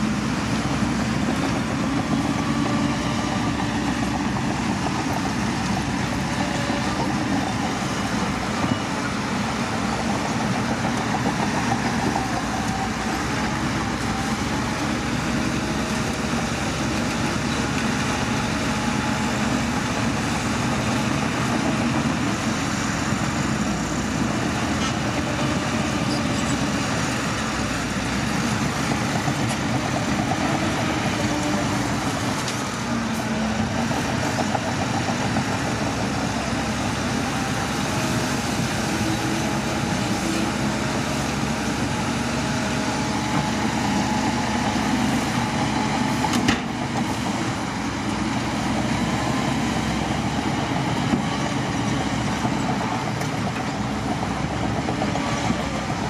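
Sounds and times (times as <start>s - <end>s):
diesel truck engines running: 0.0s - 56.0s.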